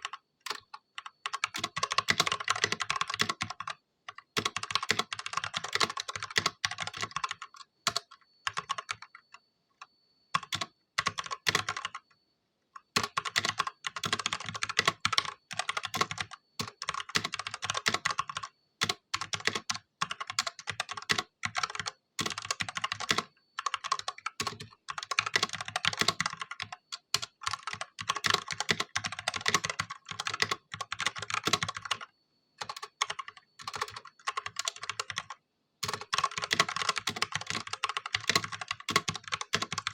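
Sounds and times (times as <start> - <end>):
mechanical keyboard typing: 0.0 - 9.3, 10.3 - 12.0, 12.8 - 39.9.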